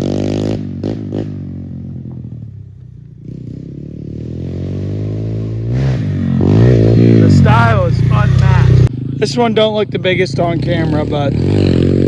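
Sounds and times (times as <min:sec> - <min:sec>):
pit bike engine revving: 0:00.0 - 0:02.4, 0:03.0 - 0:12.0.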